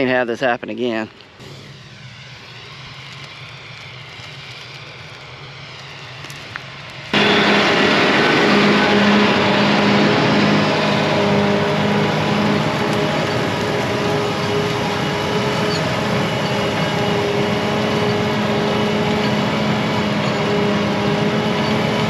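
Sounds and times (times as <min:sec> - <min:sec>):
tractor engine running: 0:01.4 - 0:22.0.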